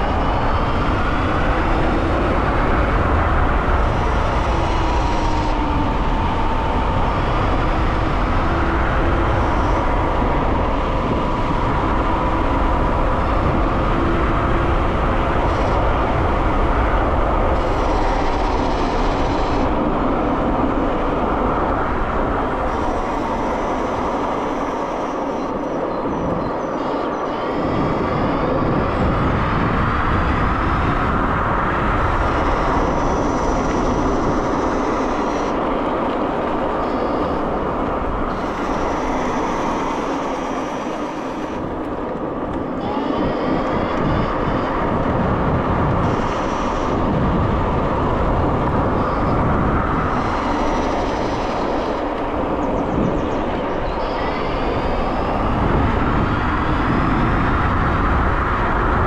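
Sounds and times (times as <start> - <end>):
electric motor whine: 0.0 - 59.0
wind buffeting on microphone: 0.0 - 59.0.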